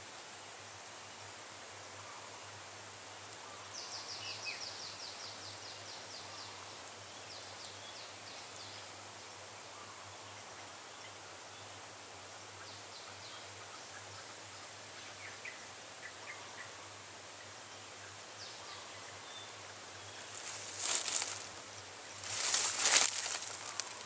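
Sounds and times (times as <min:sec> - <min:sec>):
steady forest hiss: 0:00.0 - 0:24.0.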